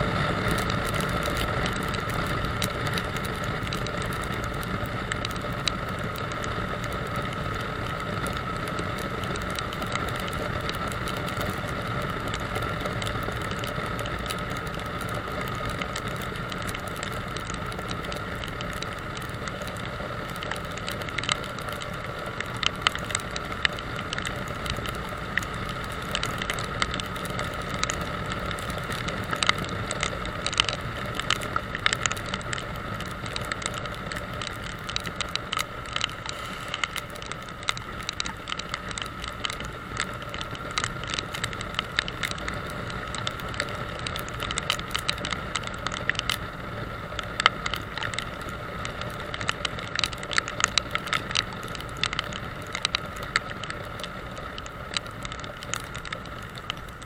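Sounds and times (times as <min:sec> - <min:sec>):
motorcycle engine on wet road: 0:00.0 - 0:57.0
sharp ticks and rattles: 0:00.0 - 0:57.0.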